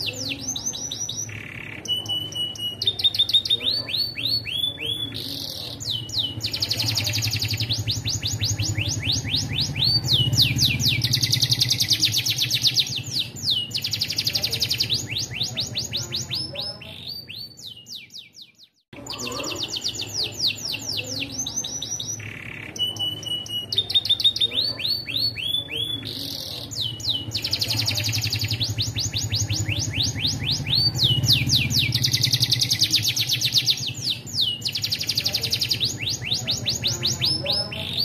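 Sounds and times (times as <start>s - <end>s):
canary singing fast trills: 0.0s - 38.0s.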